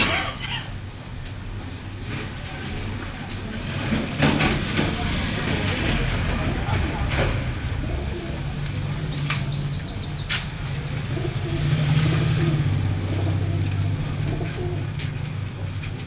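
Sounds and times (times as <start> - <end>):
pigeons cooing: 0.0 - 1.8, 4.4 - 16.0.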